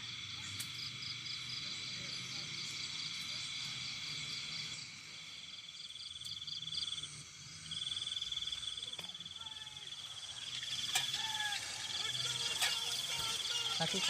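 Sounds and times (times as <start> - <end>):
insect trilling: 0.0 - 14.0.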